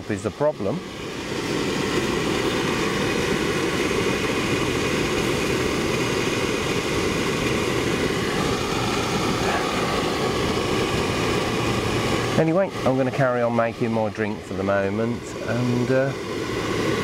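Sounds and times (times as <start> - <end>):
gas burner rushing: 0.0 - 17.0.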